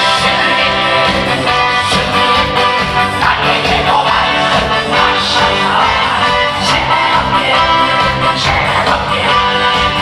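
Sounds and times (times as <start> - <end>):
singing: 0.0 - 10.0.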